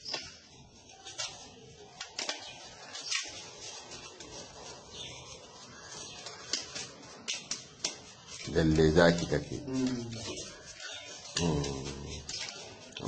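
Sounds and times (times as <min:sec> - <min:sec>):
paper banknotes rustling: 0:00.0 - 0:13.0
sharp paper crackles: 0:00.0 - 0:13.0.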